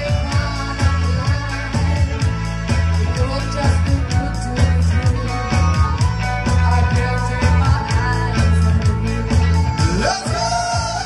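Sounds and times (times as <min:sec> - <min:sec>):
bass line: 0:00.0 - 0:11.0
dance band music over pa: 0:00.0 - 0:11.0.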